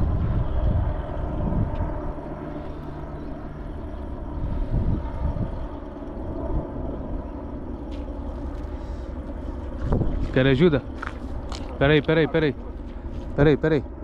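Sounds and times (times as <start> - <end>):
faint hum: 0.0 - 14.0
low engine rumble: 0.0 - 14.0.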